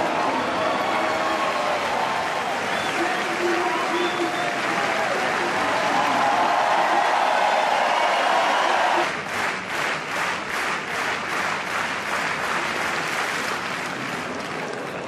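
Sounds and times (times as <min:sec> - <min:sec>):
crowd clapping in unison: 0:00.0 - 0:15.0
loud crowd noise: 0:00.0 - 0:15.0.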